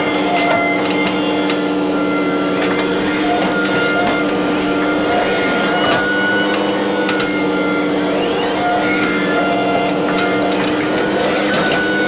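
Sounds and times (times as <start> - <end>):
excavator diesel engine running: 0.0 - 12.0
hydraulic whine: 0.0 - 12.0.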